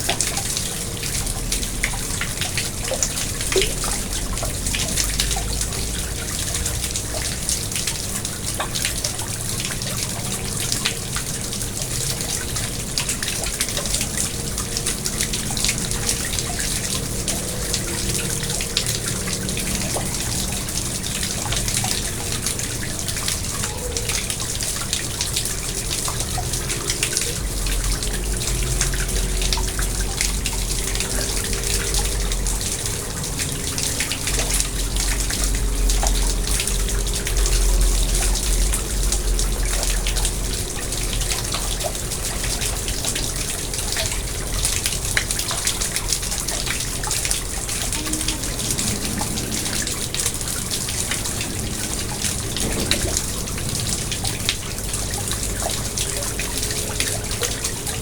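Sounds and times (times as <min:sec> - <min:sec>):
pond water running and splashing: 0:00.0 - 0:58.0
water drips: 0:00.0 - 0:58.0.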